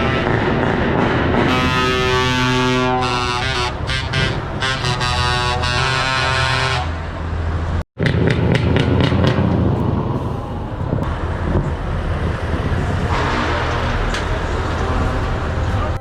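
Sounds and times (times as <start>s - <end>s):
heavy truck engines running: 0.0s - 16.0s
traffic rumble: 0.0s - 16.0s.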